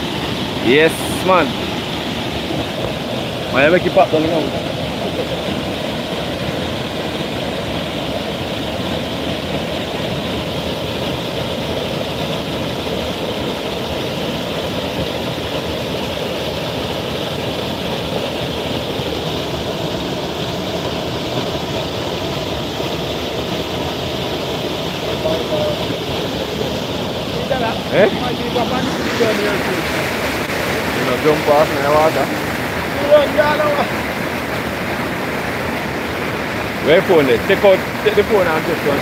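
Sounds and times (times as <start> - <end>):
waterfall rushing over rocks: 0.0 - 39.0.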